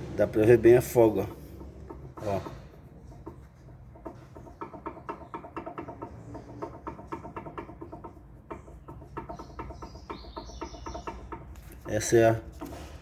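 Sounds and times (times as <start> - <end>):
ball joint clacking metallic knocks: 0.3 - 13.0.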